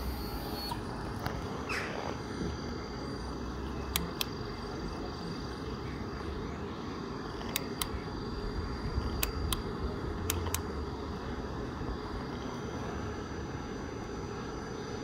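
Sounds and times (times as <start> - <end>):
background hiss and rumble: 0.0 - 15.0.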